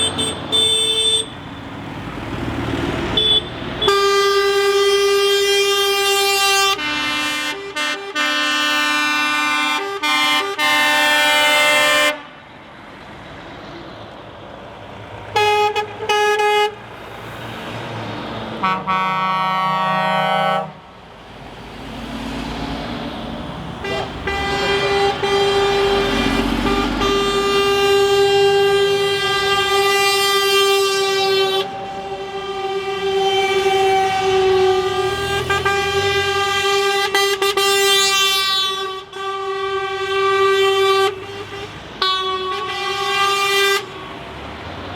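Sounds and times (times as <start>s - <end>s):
truck horns honking: 0.0s - 12.5s, 15.3s - 17.4s, 18.4s - 21.0s, 22.0s - 44.5s
passing truck rumble: 0.0s - 44.9s.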